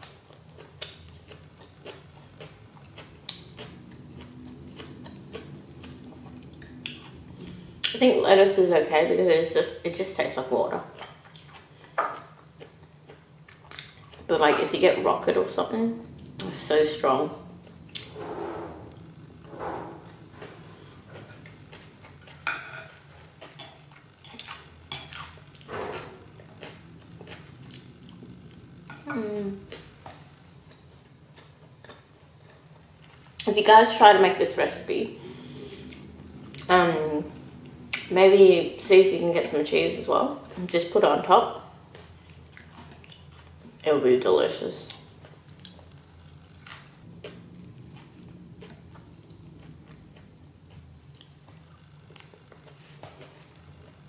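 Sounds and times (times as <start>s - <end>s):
soft chewing: 0.0s - 8.1s, 10.7s - 15.4s, 16.0s - 33.5s, 35.3s - 38.2s, 41.8s - 43.9s, 44.9s - 54.0s.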